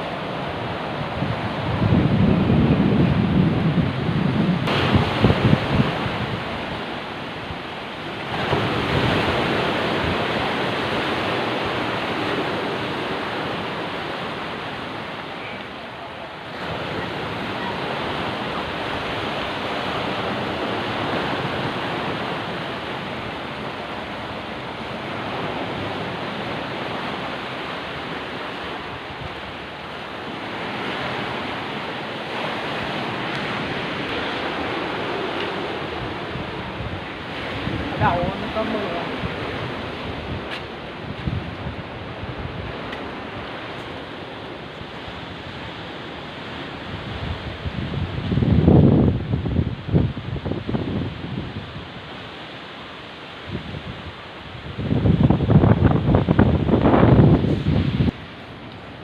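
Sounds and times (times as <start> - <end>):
wind buffeting microphone: 0.0 - 14.3, 16.5 - 52.3, 53.4 - 59.0
waves breaking: 0.0 - 59.0.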